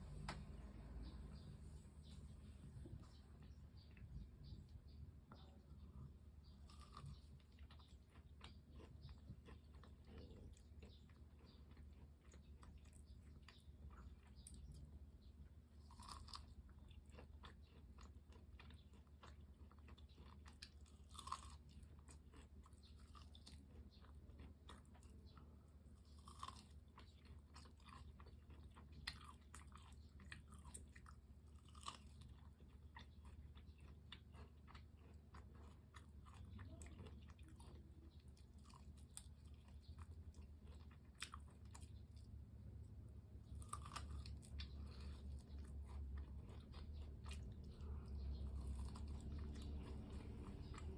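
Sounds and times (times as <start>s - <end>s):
chewing crispy fried chicken: 0.0s - 50.9s.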